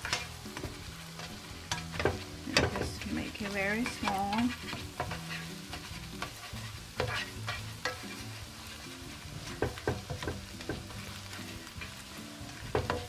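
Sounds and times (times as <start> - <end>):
eggs sizzling in oil: 0.0 - 13.0
spatula scraping and tapping pan: 0.0 - 13.0.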